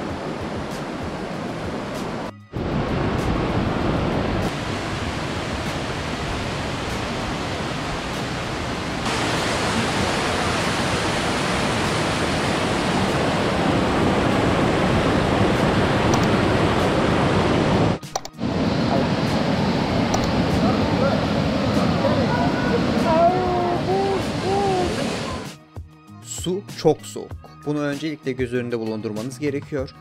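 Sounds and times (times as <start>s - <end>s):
river water rushing: 0.0s - 25.5s.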